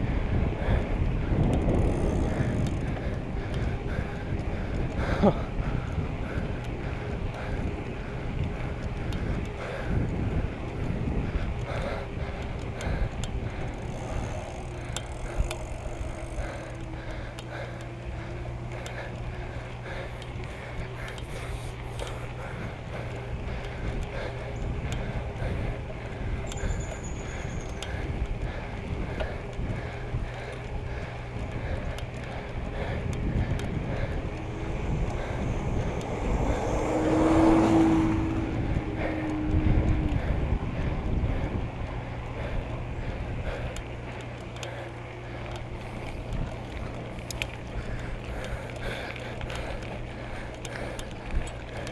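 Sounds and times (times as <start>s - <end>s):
vehicle passing by: 0.0s - 29.4s, 30.8s - 51.9s
bicycle clicks and rattles: 0.0s - 51.9s
low steady hum: 0.0s - 51.9s
wind and road noise on microphone: 0.0s - 51.9s.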